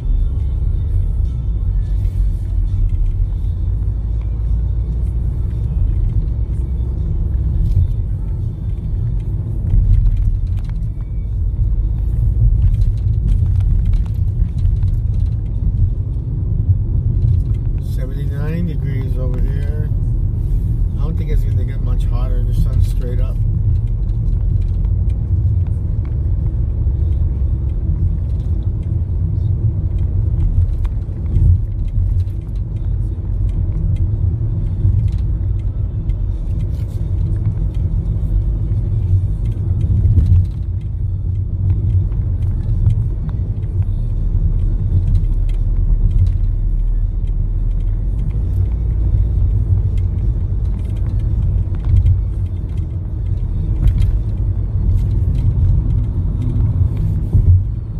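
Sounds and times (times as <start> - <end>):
road and engine rumble in car: 0.0 - 57.9.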